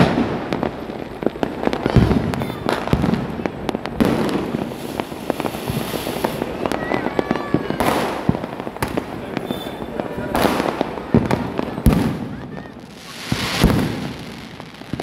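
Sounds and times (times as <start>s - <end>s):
firecrackers cracking and popping: 0.0s - 15.0s.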